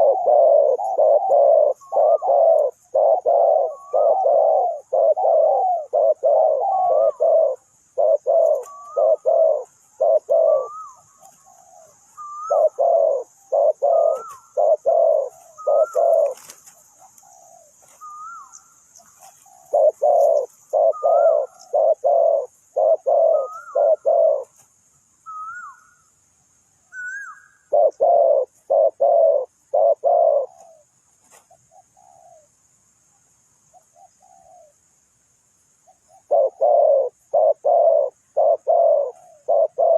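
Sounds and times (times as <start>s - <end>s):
dove cooing: 0.0s - 24.6s, 26.9s - 32.5s, 33.7s - 34.8s, 35.8s - 39.9s.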